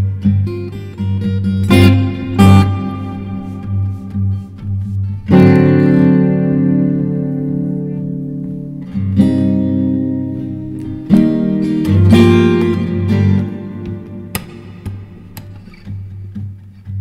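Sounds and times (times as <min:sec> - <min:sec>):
guitar chords: 0:00.0 - 0:17.0.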